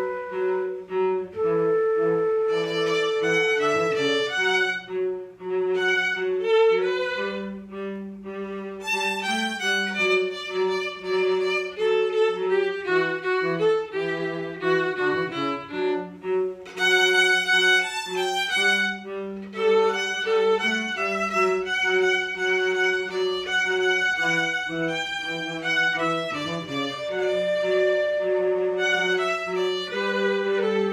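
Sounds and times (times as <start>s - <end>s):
violin playing a melody: 0.0s - 30.9s.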